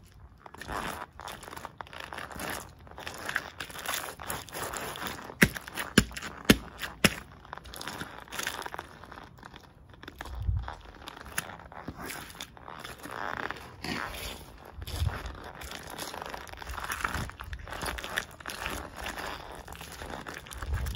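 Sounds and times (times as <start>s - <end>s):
sneakers stepping on mashed bananas: 0.5s - 9.2s, 10.0s - 20.9s.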